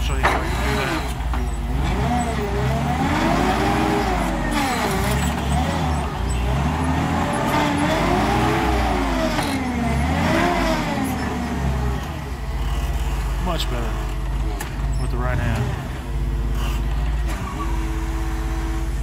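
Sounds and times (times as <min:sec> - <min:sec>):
forklift engine revving: 0:00.0 - 0:19.0.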